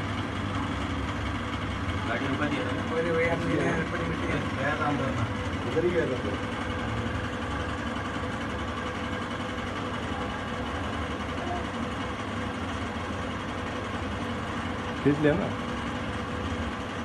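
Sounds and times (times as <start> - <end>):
low mechanical rumble with hiss: 0.0 - 17.0.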